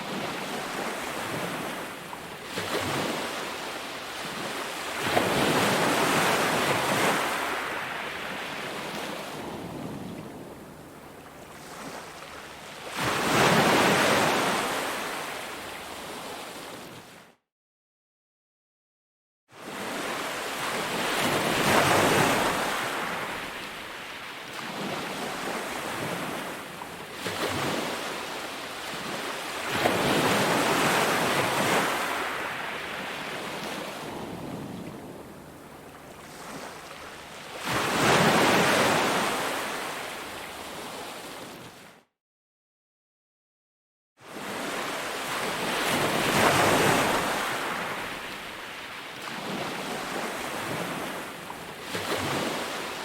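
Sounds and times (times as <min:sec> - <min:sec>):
sea waves breaking on beach: 0:00.0 - 0:17.0, 0:19.6 - 0:41.8, 0:44.2 - 0:53.0.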